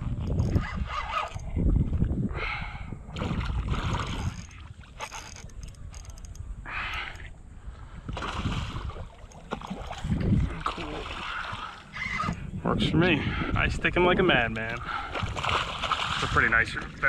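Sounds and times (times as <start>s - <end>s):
water splashing and sloshing: 0.0s - 6.4s, 7.0s - 12.5s, 14.1s - 17.0s
wind rumbling on microphone: 0.0s - 17.0s.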